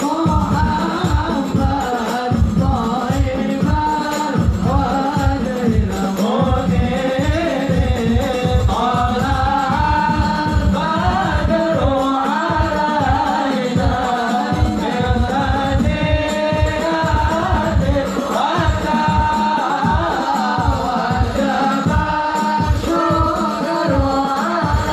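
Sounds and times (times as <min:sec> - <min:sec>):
frame drums beating: 0:00.0 - 0:24.9
men singing together: 0:00.0 - 0:24.9.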